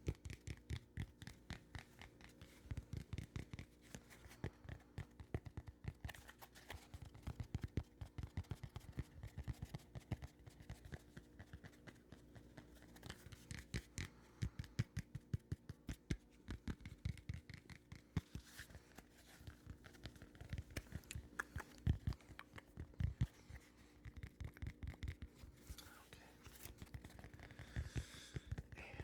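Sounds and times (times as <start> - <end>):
tapping and light scratching: 0.0 - 29.0.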